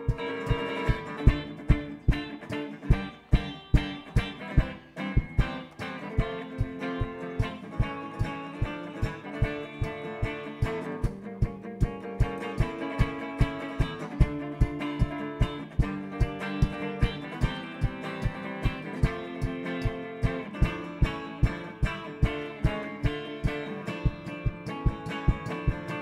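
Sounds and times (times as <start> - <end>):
electric guitar playing: 0.0 - 26.0.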